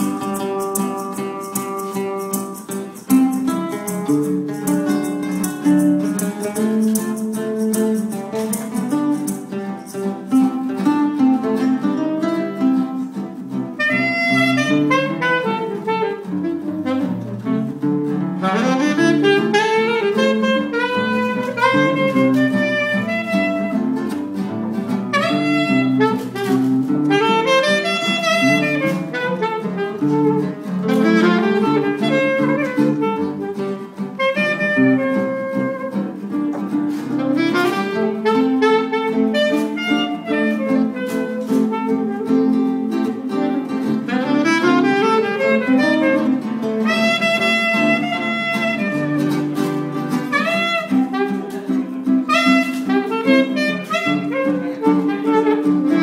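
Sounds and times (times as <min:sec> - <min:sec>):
acoustic guitars strumming chords: 0:00.0 - 0:56.0
saxophone melody: 0:00.0 - 0:56.0.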